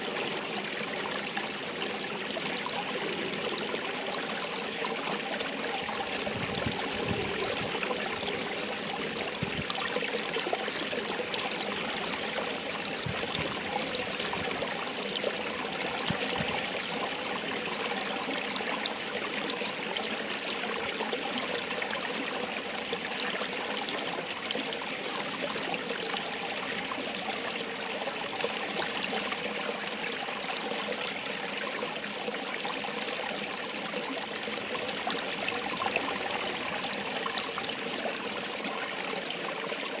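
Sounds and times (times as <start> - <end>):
running water flowing: 0.0 - 40.0.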